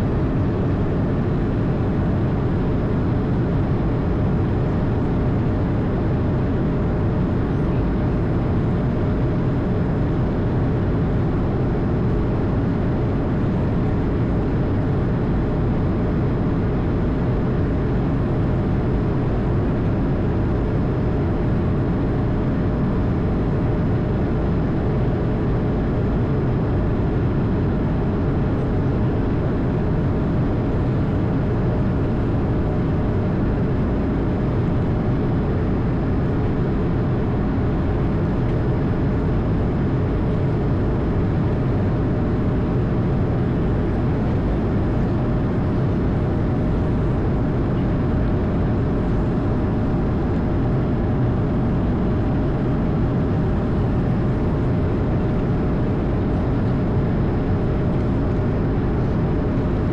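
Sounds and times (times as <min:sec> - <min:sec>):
aircraft engines and airflow: 0:00.0 - 0:59.9
faint constant hum: 0:00.0 - 0:59.9.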